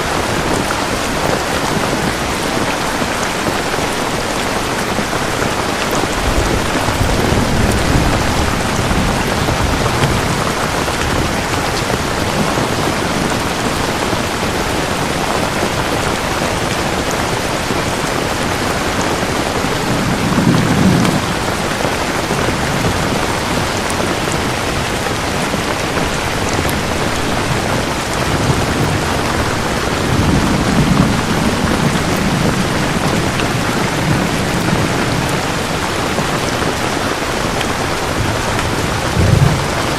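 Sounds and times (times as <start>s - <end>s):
steady rain falling: 0.0s - 39.9s
thunder rumbling: 0.1s - 39.9s.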